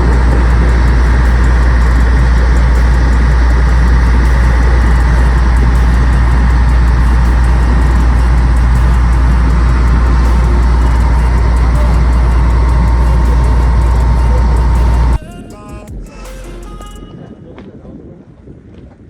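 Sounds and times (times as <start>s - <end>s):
engine low rumble: 0.0s - 17.1s.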